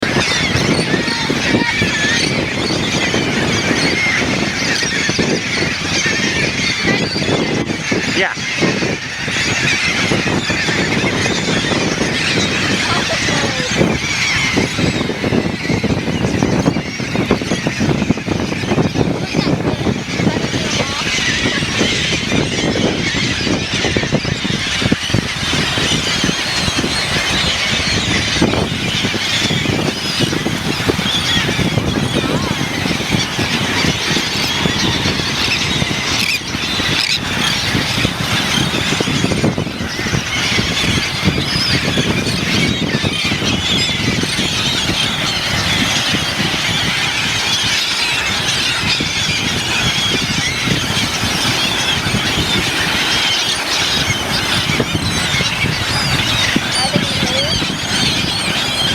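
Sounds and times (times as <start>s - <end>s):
flock of birds calling: 0.0s - 58.9s.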